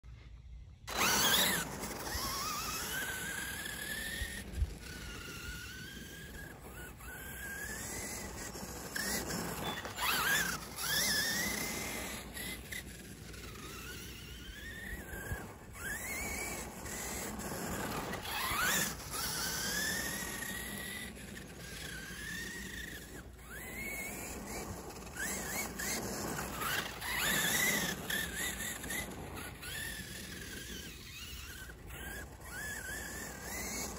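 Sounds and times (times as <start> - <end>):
electric motor whining: 0.7 - 33.9
tyres scrabbling in loose dirt: 0.9 - 33.9.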